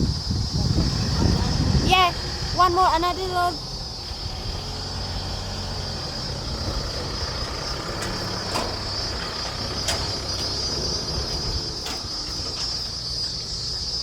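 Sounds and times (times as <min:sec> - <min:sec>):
insects buzzing: 0:00.0 - 0:14.0
truck engine rumbling: 0:00.0 - 0:14.0.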